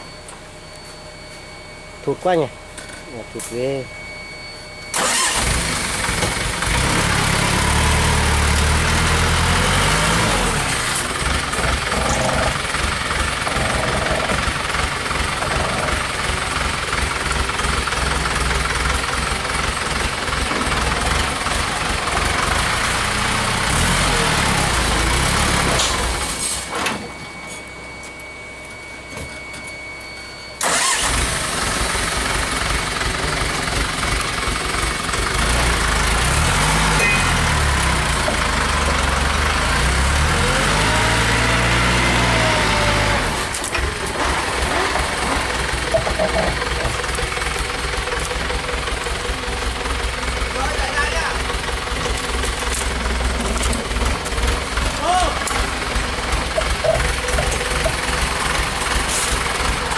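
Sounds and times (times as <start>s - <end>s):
diesel truck engine under load: 4.9s - 27.4s, 30.6s - 59.9s.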